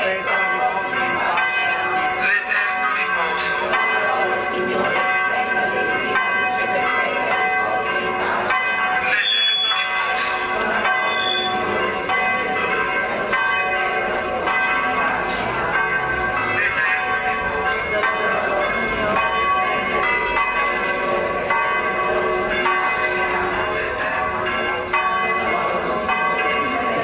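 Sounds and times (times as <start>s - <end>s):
church bells ringing: 0.0s - 27.0s
faint crowd voices: 0.0s - 27.0s.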